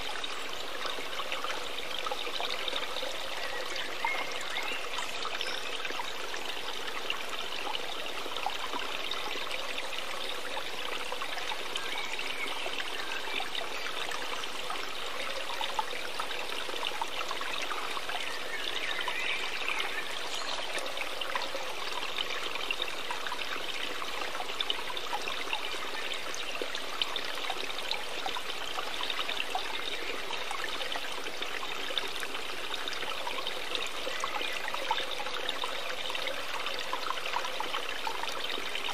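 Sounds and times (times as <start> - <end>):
trickling running water: 0.0 - 38.9.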